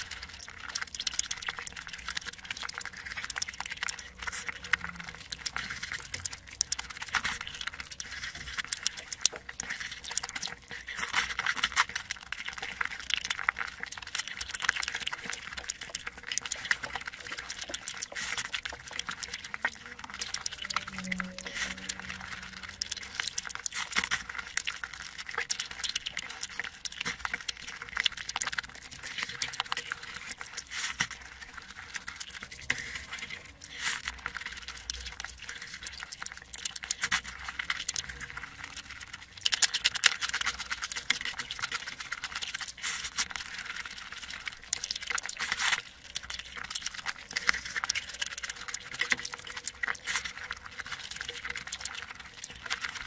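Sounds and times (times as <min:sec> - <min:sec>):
wet chewing and lip-smacking: 0:00.0 - 0:53.0.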